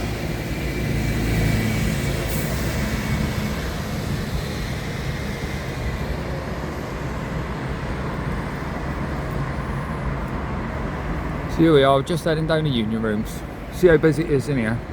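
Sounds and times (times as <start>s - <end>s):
city street traffic: 0.0s - 14.9s
vehicle engine hum: 0.0s - 14.9s.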